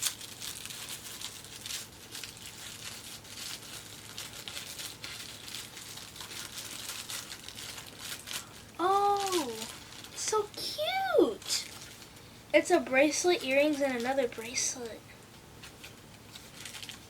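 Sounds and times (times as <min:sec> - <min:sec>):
wrapping paper crinkling and tearing: 0:00.0 - 0:15.0, 0:15.6 - 0:17.0.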